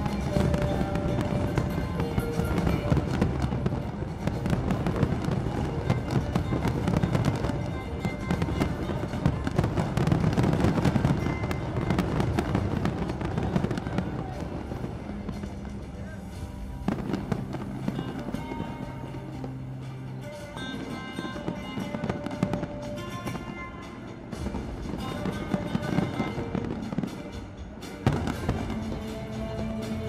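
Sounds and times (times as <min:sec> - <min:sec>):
fireworks cracking and popping: 0:00.0 - 0:30.0
music playing: 0:00.0 - 0:30.0.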